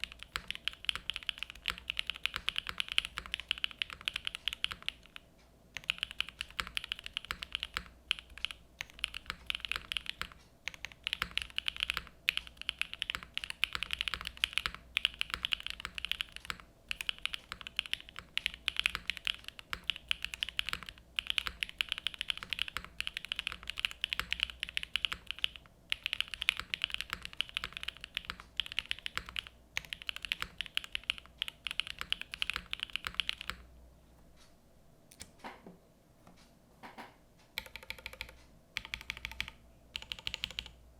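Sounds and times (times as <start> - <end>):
fast mechanical keyboard typing: 0.0 - 33.7, 37.6 - 40.8.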